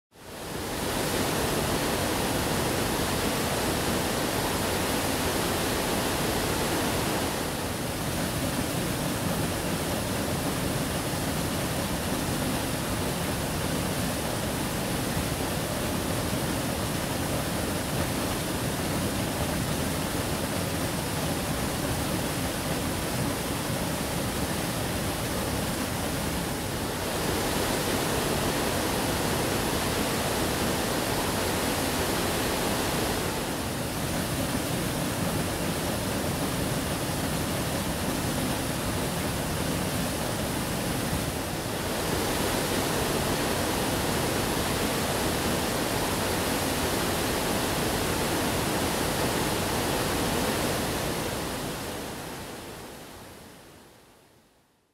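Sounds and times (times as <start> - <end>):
waterfall rushing: 0.2 - 53.6.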